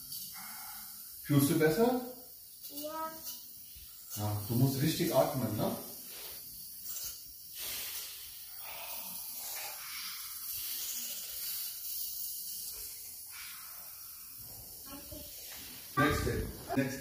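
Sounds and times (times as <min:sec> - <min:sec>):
nebulizer hissing: 0:00.0 - 0:17.0.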